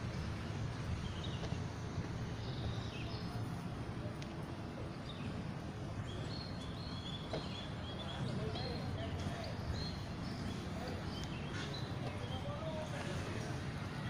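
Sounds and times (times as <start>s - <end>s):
low outdoor rumble: 0.0s - 14.0s
small birds chirping: 0.1s - 14.0s.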